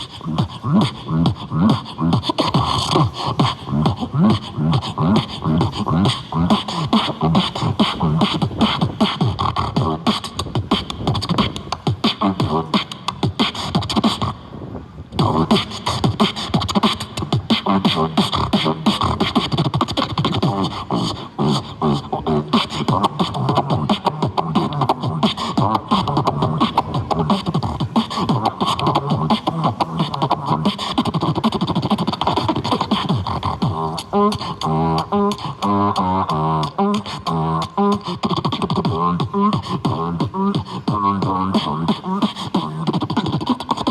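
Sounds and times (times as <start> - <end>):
beatboxing vocal percussion: 0.0 - 43.9.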